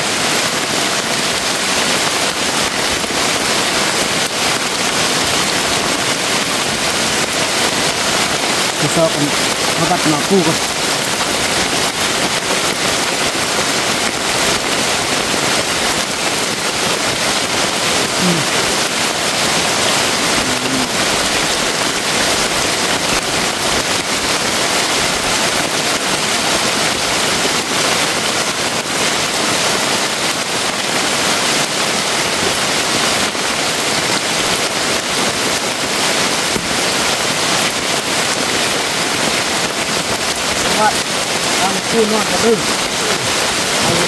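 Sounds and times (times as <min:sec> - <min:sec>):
heavy rain on foliage: 0:00.0 - 0:44.0.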